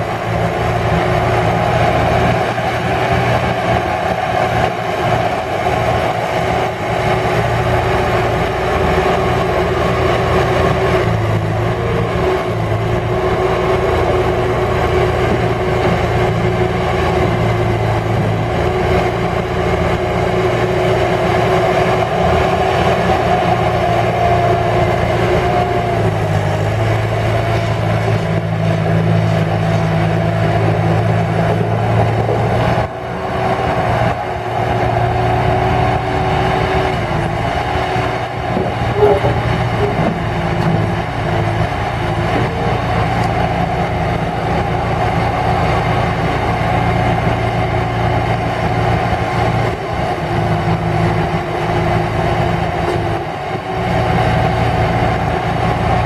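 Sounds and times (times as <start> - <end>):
diesel engine running: 0.0 - 56.0
steady whine: 0.0 - 56.0.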